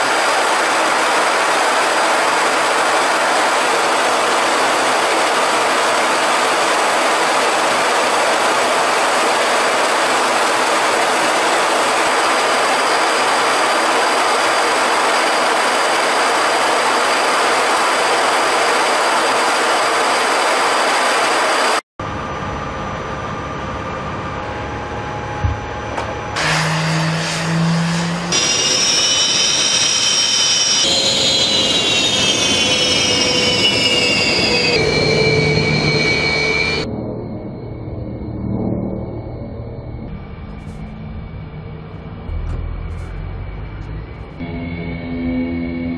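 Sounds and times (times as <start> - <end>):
jet engine rushing: 0.0 - 45.9
turbine whine: 0.0 - 45.9.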